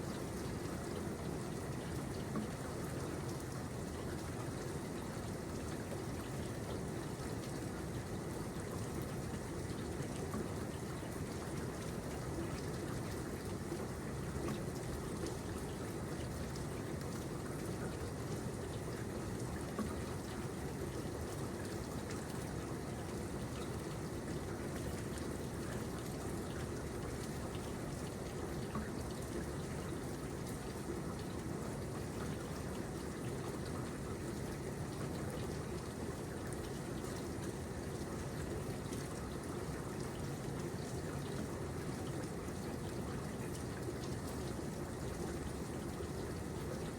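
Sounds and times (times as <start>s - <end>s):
water trickling and pouring: 0.1s - 46.9s.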